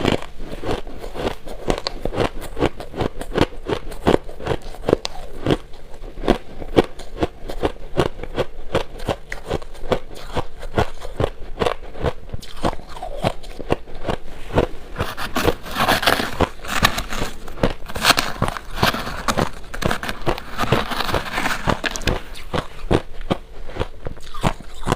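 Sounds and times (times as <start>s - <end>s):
chewing crunchy ice: 0.0s - 24.9s.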